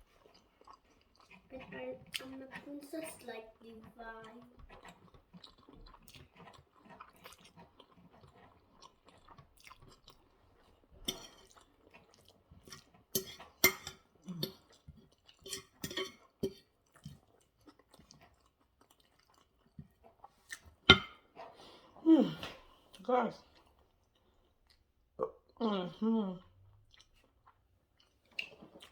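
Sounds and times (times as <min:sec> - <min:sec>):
chewing and mouth smacks: 0:00.0 - 0:25.6, 0:26.4 - 0:28.9.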